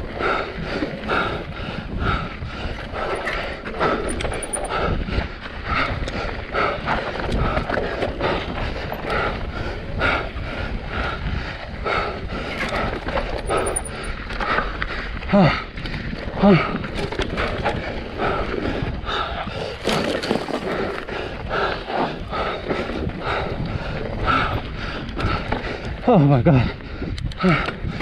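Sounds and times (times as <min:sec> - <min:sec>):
bike tyre and rattle noise: 0:00.0 - 0:28.0
rider breathing hard: 0:00.0 - 0:28.0
rider grunting: 0:00.0 - 0:28.0
wind noise on microphone: 0:00.0 - 0:28.0.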